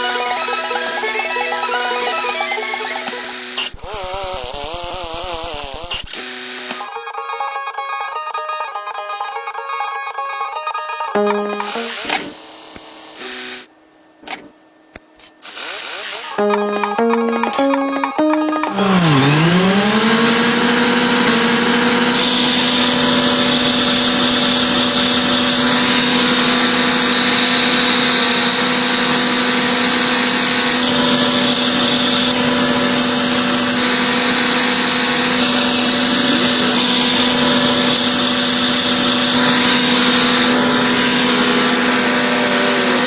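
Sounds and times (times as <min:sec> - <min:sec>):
small motor humming with whine: 0:00.0 - 0:07.0, 0:11.2 - 0:43.0.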